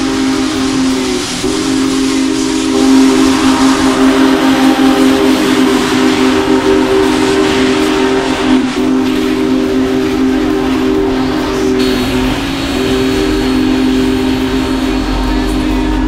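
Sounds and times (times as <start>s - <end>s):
hiss of steam: 0.0s - 16.0s
steam locomotive chime whistle: 0.0s - 16.0s.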